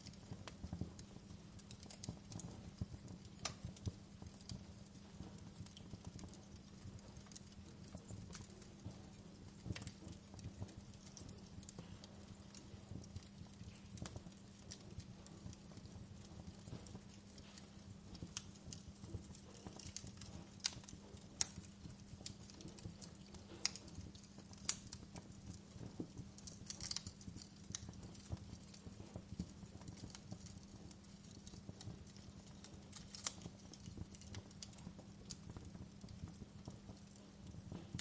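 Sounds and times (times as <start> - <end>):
fire snaps and pops: 0.0 - 38.0.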